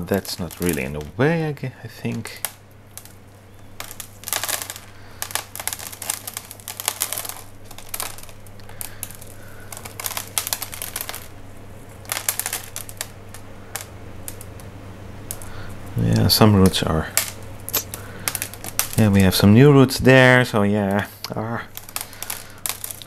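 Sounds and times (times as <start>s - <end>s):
roots and potting medium crackling: 0.0s - 23.0s.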